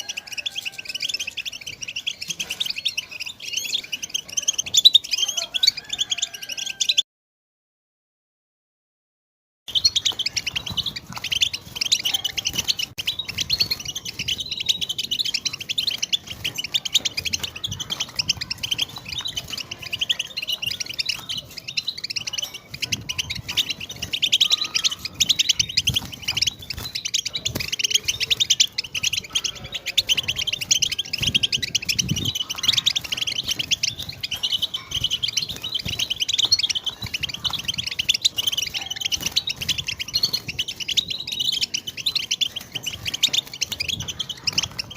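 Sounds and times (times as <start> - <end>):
goldfinch chattering and twittering: 0.0 - 7.0, 9.7 - 44.9.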